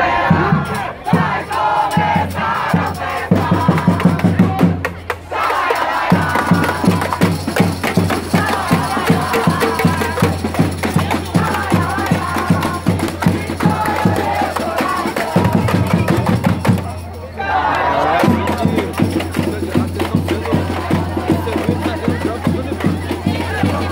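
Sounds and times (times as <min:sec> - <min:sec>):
crowd chanting and shouting: 0:00.0 - 0:23.9
fast drumming and percussion: 0:00.3 - 0:17.2, 0:18.2 - 0:23.9.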